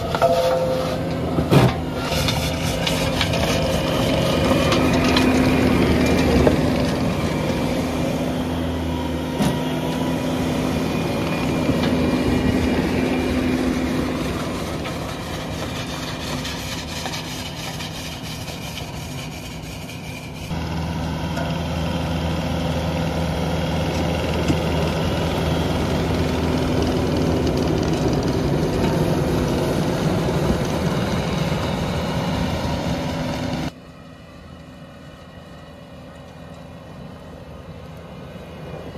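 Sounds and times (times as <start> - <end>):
hydraulic mulcher running: 0.0 - 19.0, 20.2 - 38.9
loader engine running: 0.0 - 38.9.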